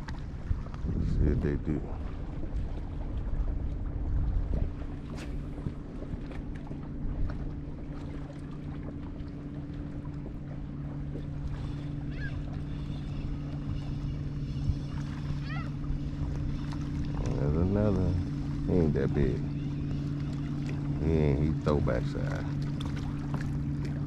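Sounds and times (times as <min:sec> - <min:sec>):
wind on microphone: 0:00.0 - 0:08.3, 0:10.2 - 0:24.0
boat motor humming: 0:00.0 - 0:24.0.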